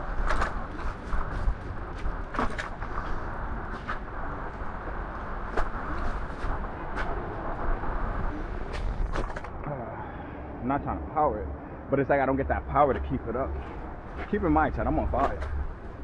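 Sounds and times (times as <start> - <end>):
bike riding noise: 0.0 - 10.4, 12.8 - 16.0.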